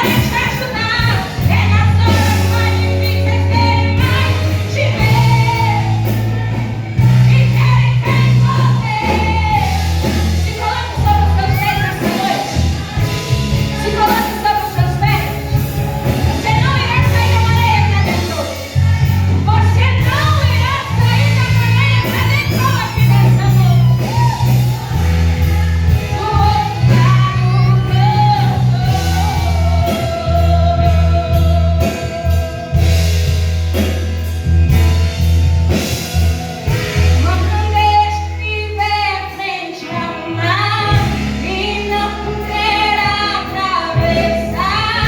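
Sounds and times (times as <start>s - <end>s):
woman singing gospel: 0.0s - 33.4s, 36.4s - 45.0s
live band accompaniment: 0.0s - 45.0s.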